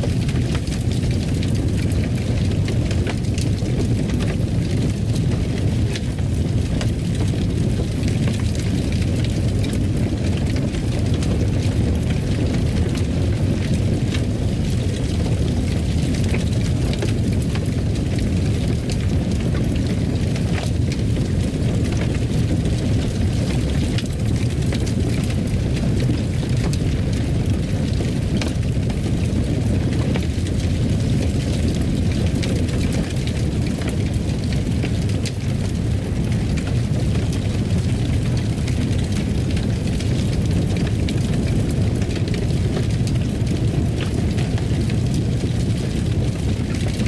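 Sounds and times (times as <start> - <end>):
wood fire rumbling and crackling: 0.0 - 47.0.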